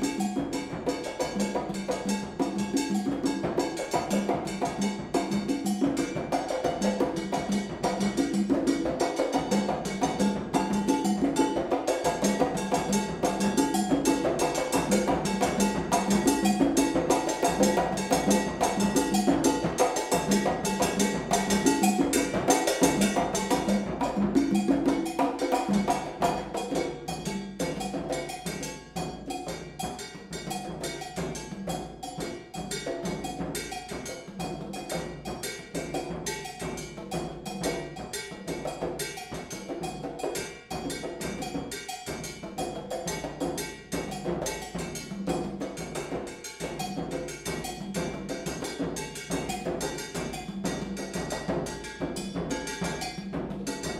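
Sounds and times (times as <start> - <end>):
layered drum and wood-block patterns: 0.0 - 53.9.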